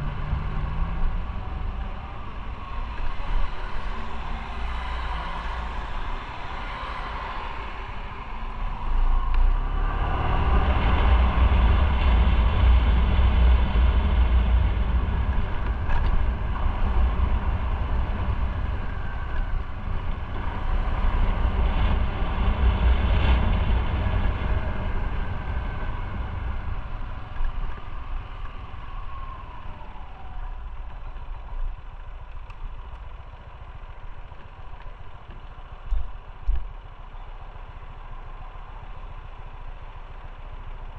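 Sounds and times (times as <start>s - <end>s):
wind rumble on microphone: 0.0s - 36.9s.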